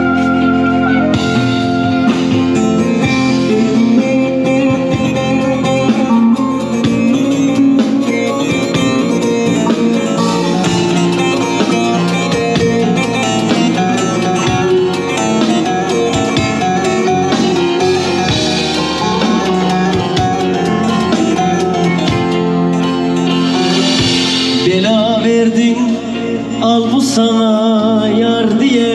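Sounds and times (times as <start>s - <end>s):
band accompaniment: 0.0s - 28.9s
plucked string melody: 0.0s - 28.9s.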